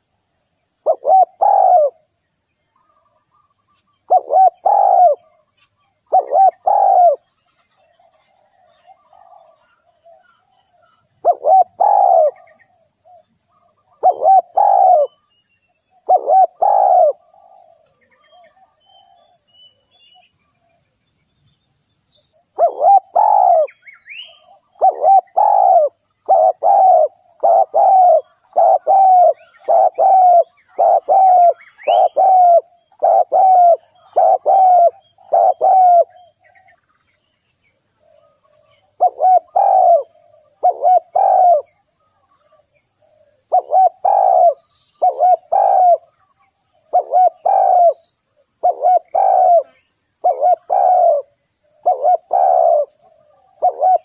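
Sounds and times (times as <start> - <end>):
dove cooing: 0.8 - 2.1, 4.0 - 7.3, 7.9 - 15.3, 15.9 - 19.4, 22.4 - 36.8, 38.0 - 48.0, 48.6 - 54.0.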